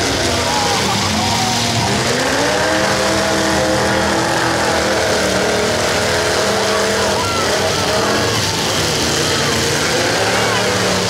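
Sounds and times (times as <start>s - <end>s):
car engine revving: 0.0s - 11.0s
car engines running loudly: 0.0s - 11.0s.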